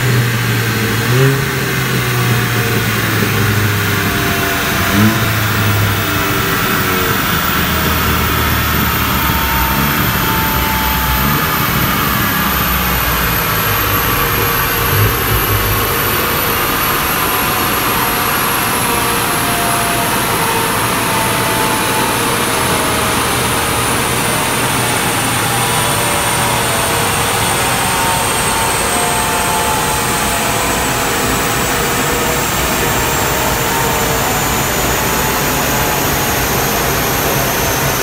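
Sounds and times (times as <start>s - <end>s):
car engine at low revs: 0.0s - 38.0s
loud rush of noise: 0.0s - 38.0s
thin whines falling in pitch: 0.0s - 38.0s.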